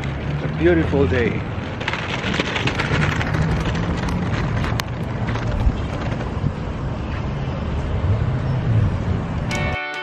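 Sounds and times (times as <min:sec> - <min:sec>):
wind buffeting microphone: 0:01.1 - 0:09.5.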